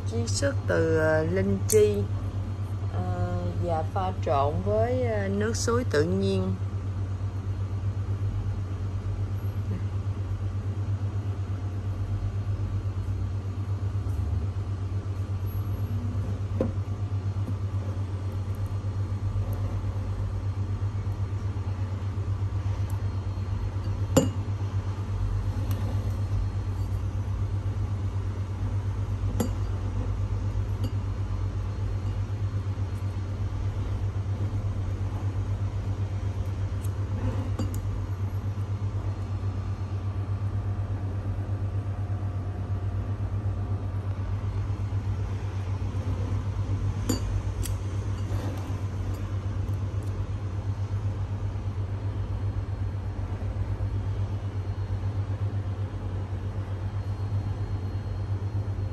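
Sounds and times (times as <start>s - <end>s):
low machine hum: 0.0s - 58.9s.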